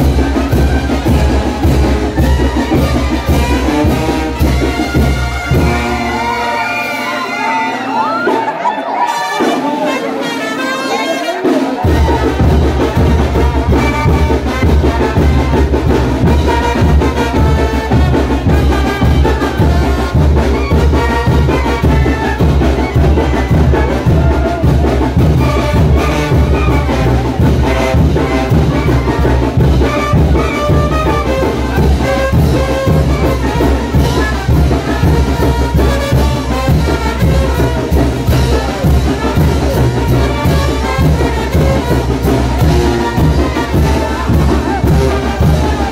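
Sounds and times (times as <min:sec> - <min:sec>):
drums keeping a steady beat: 0:00.0 - 0:45.9
trumpets and trombones: 0:00.0 - 0:45.9.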